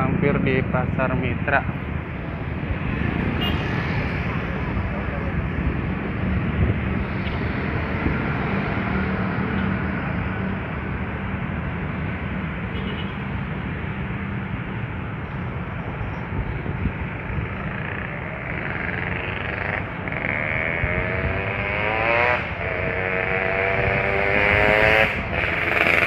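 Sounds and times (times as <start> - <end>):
road noise: 0.0 - 26.0
street traffic engine hum: 0.0 - 26.0.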